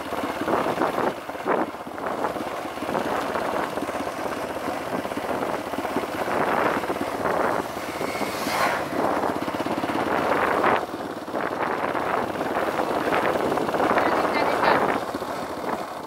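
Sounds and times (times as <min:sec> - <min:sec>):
dirt bike engine running: 0:00.0 - 0:16.0
wind noise on microphone: 0:00.0 - 0:16.0.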